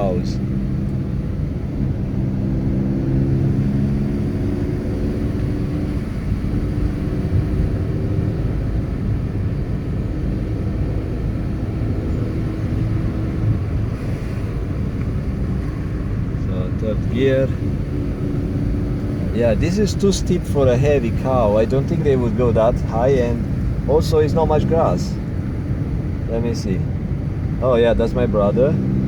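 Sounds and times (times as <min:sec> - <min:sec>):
car engine running: 0:00.0 - 0:29.0
road and wind noise: 0:00.0 - 0:29.0.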